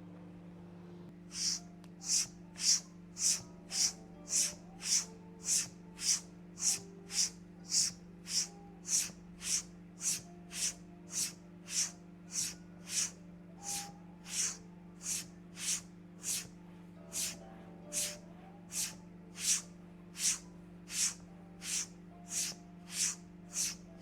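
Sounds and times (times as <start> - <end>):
faint low hum: 0.0 - 24.0
razor blade scraping skin: 1.4 - 16.5, 17.1 - 17.4, 18.0 - 23.9.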